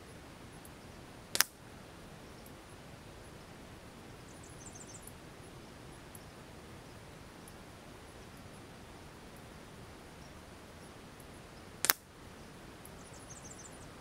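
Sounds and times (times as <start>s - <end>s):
faint high chirps: 0.0s - 14.0s
steady outdoor hiss: 0.0s - 14.0s.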